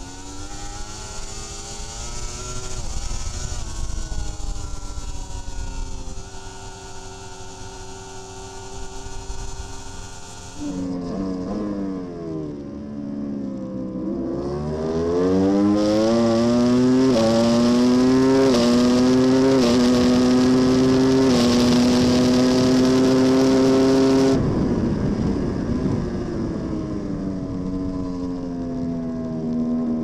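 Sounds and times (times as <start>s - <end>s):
rush of wind noise: 0.0s - 11.7s, 14.9s - 30.0s
motorcycle engine revving: 0.0s - 30.0s.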